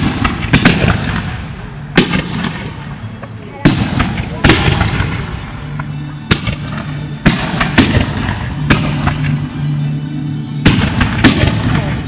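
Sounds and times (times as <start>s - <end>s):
fireworks bangs: 0.0s - 3.0s, 3.6s - 9.6s, 10.6s - 12.0s.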